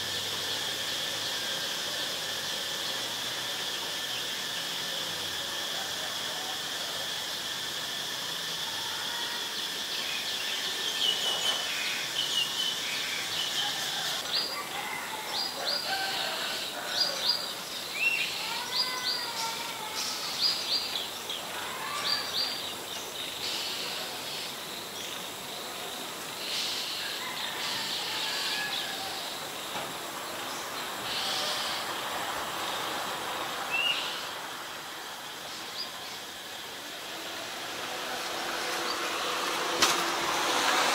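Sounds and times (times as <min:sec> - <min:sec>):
high insect-like whine: 0:00.0 - 0:40.9.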